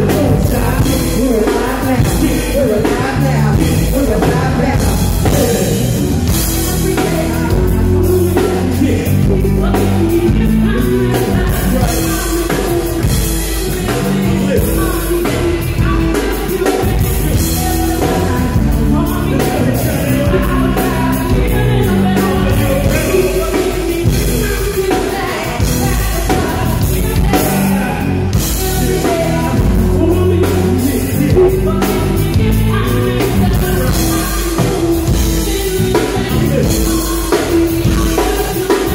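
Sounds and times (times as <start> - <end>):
live band playing: 0.0 - 38.9
person singing: 0.0 - 38.9.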